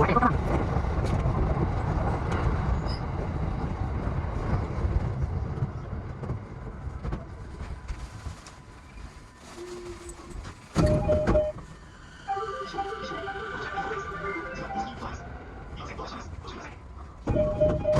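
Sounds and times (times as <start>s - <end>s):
train rumble on rails: 0.0s - 17.9s.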